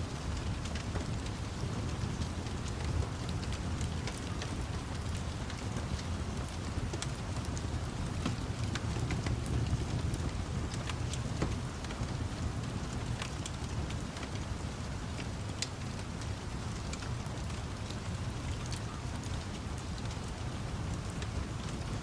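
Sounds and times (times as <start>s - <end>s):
low continuous rumble: 0.0s - 22.0s
steady rain: 0.0s - 22.0s
wood fire crackling: 0.0s - 22.0s.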